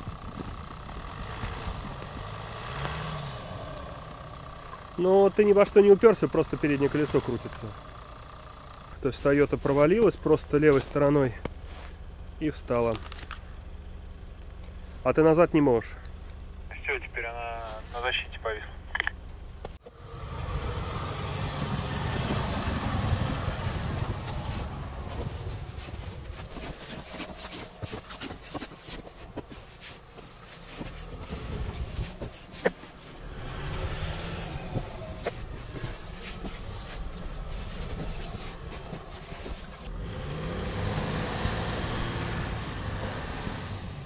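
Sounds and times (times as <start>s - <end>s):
diesel engine running: 0.0s - 44.0s
tyres crunching through snow: 0.0s - 44.0s.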